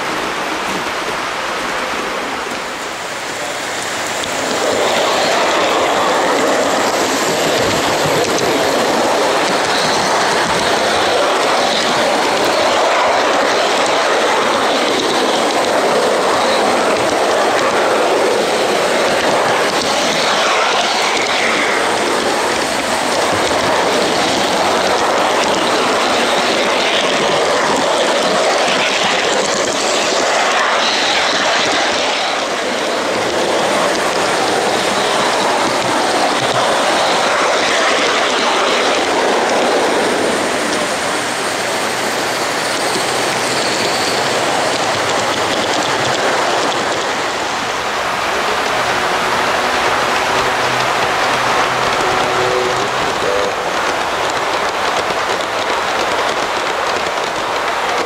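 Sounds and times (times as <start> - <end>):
model trains running: 0.0 - 58.0
steady loud hiss: 0.0 - 58.0.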